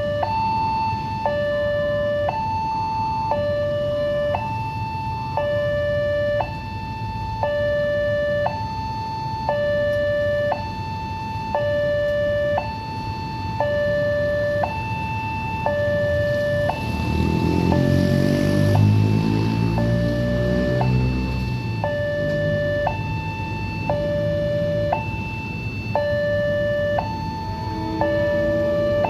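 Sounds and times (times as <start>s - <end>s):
level crossing two-tone alarm: 0.0s - 29.0s.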